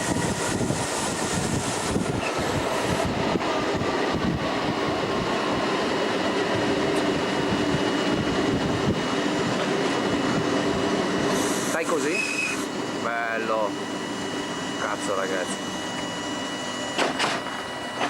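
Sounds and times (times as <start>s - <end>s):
train running rumble: 0.0s - 15.9s.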